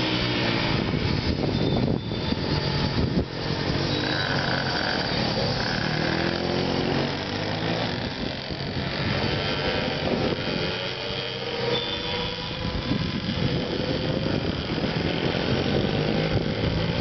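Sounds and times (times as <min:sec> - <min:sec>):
pit bike engine running: 0:00.0 - 0:17.0.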